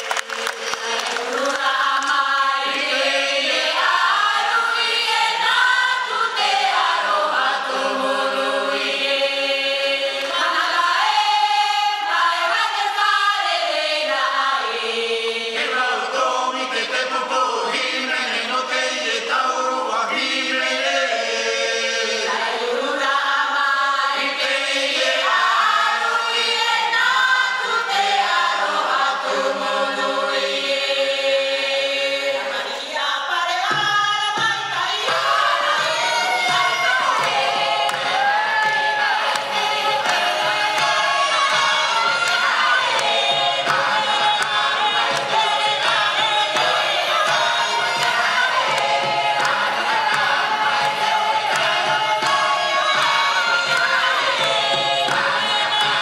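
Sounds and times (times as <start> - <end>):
choir singing unaccompanied: 0.0 - 56.0.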